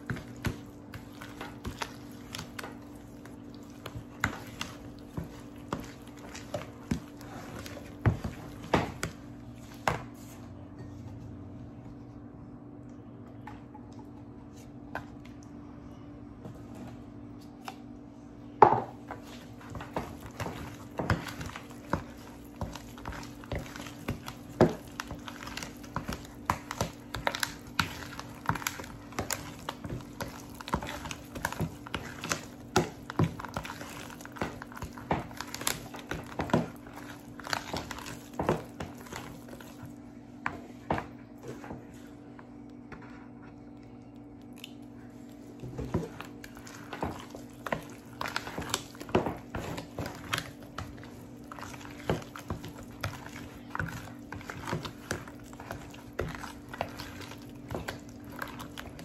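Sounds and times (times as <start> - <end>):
spoon stirring batter in bowl: 0.0 - 11.2, 18.6 - 59.0.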